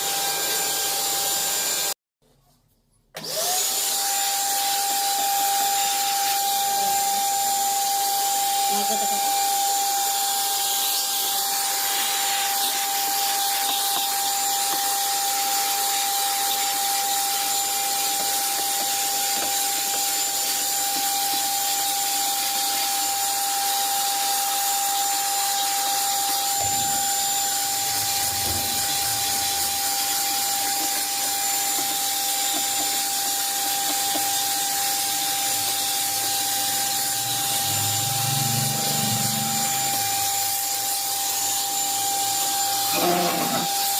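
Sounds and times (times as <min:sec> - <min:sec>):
vacuum cleaner whining: 0:00.0 - 0:02.0, 0:03.2 - 0:43.9.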